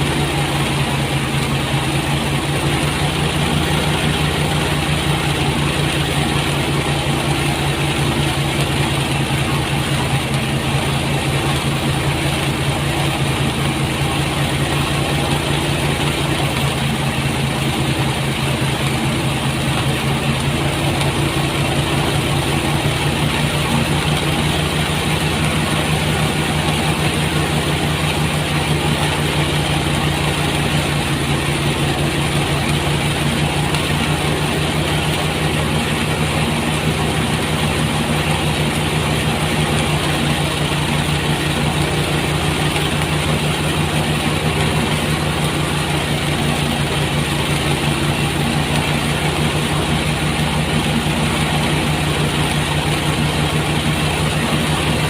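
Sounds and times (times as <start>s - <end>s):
threshing machine engine hum: 0.0s - 55.0s.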